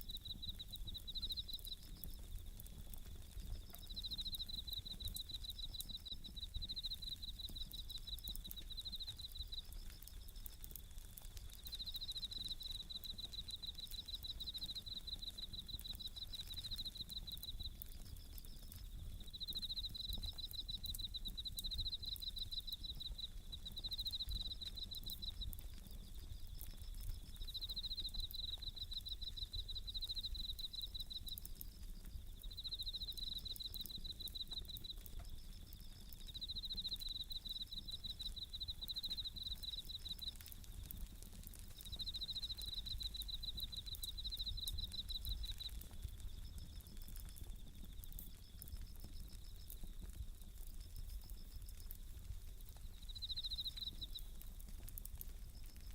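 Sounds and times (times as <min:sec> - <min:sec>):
crickets trilling: 0:00.0 - 0:55.9
wood fire crackling: 0:00.0 - 0:55.9.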